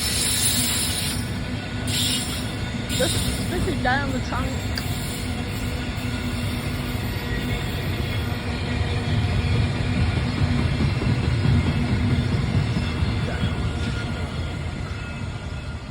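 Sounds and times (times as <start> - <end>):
freight train rumbling past: 0.0 - 15.9.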